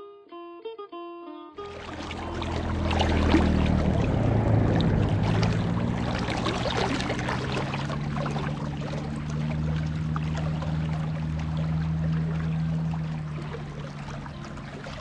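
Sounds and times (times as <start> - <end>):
steady low hum: 1.6 - 15.0
water pouring rush: 1.6 - 15.0.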